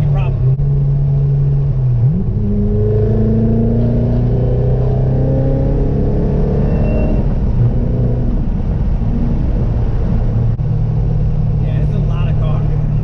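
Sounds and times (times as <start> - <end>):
car engine running: 0.0 - 13.0
road rumble: 0.0 - 13.0.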